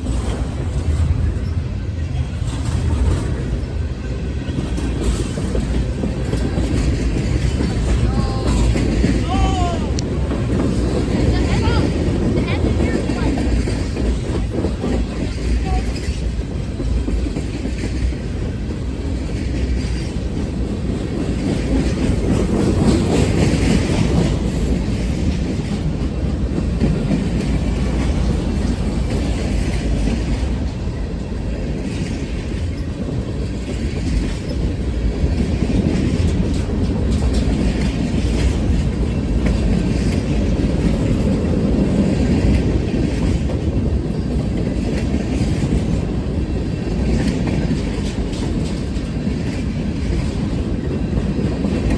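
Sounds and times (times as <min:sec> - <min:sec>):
rail clicks: 0:00.0 - 0:51.9
train wheels on rails: 0:00.0 - 0:51.9.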